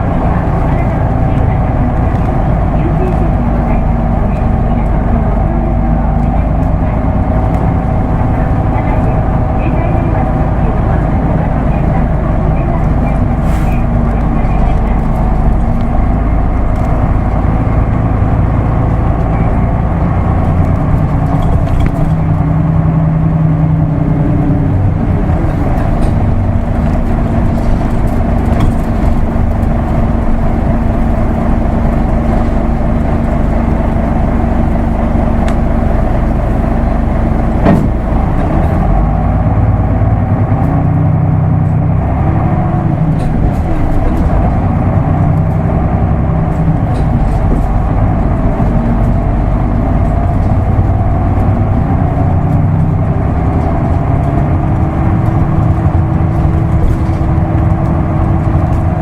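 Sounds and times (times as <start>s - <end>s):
bus engine shifting gears: 0.0s - 59.0s.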